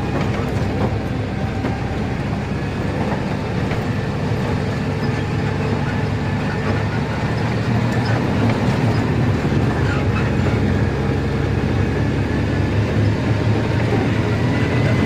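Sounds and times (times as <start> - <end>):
road rumble: 0.0 - 15.0
truck diesel engine running: 0.0 - 15.0.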